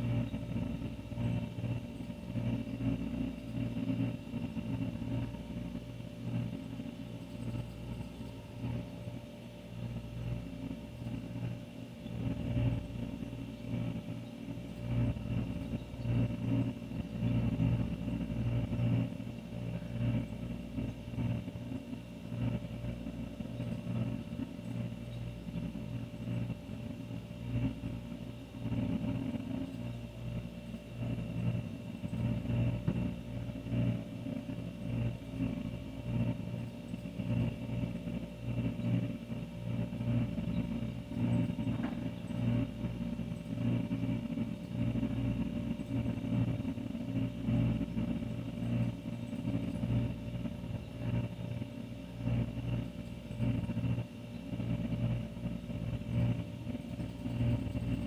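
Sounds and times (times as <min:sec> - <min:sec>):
refrigerator compressor hum: 0:00.0 - 0:58.0.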